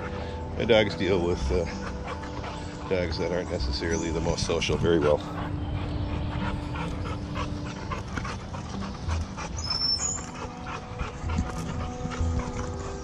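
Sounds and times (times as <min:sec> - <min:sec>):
panting: 0:00.0 - 0:13.0.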